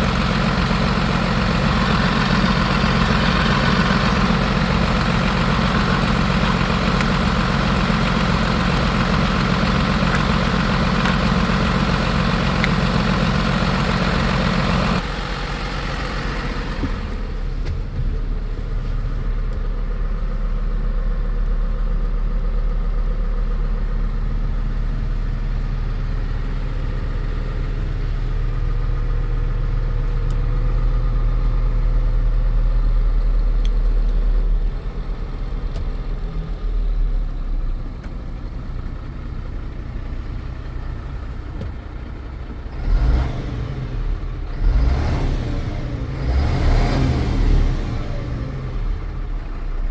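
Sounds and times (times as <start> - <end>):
truck diesel engine idling: 0.0 - 49.9.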